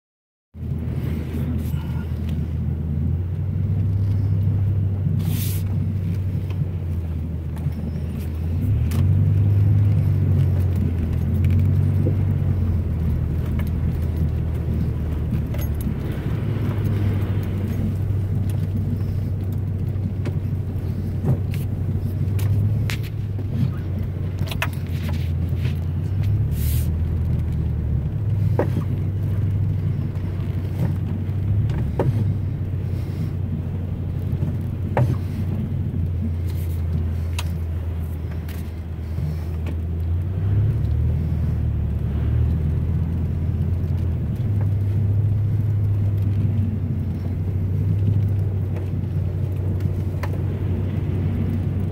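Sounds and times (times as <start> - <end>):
car engine and tyre drone: 0.5 - 51.9
light ticks: 7.5 - 51.9.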